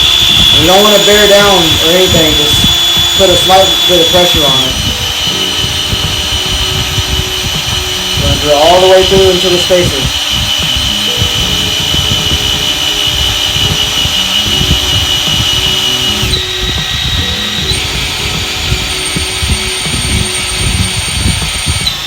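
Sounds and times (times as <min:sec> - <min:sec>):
power drill whining: 0:00.0 - 0:22.0.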